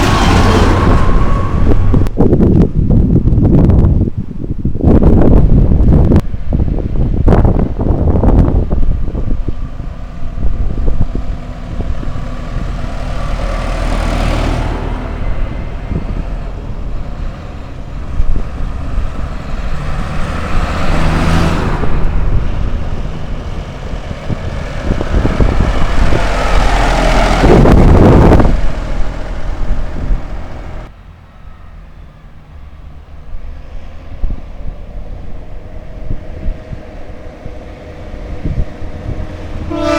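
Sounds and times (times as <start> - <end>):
wind buffeting microphone: 0.0 - 31.0, 31.8 - 39.9
vehicle engine running: 4.7 - 39.8.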